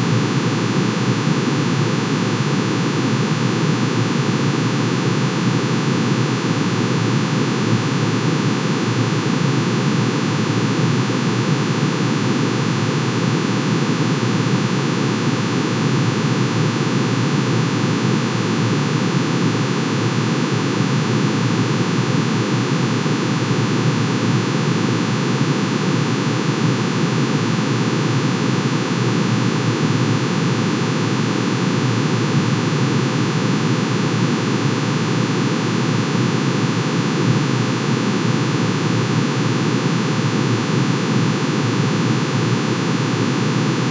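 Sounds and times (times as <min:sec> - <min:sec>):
sine wave drone: 0:00.0 - 0:43.9.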